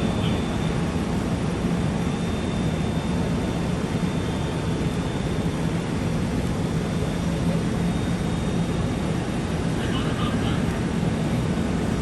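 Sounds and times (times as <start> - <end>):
constant rushing noise: 0.0 - 12.0
engine drone with low hum: 0.0 - 12.0.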